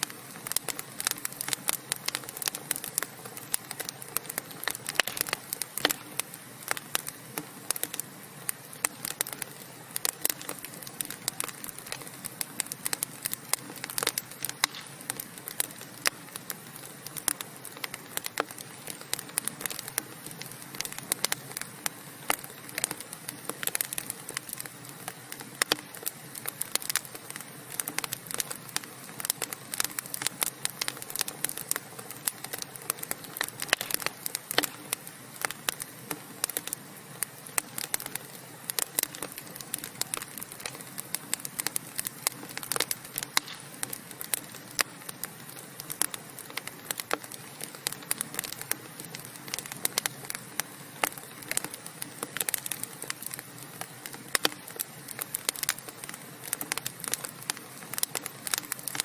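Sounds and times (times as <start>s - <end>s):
fire soft hiss: 0.0s - 59.0s
wood fire crackling: 0.0s - 59.0s.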